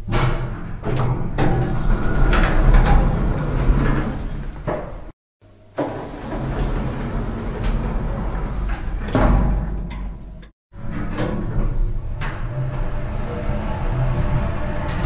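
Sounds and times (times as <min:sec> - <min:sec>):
elevator door sliding: 0:00.0 - 0:05.2, 0:05.8 - 0:15.0
elevator humming: 0:00.8 - 0:05.1, 0:05.7 - 0:15.0.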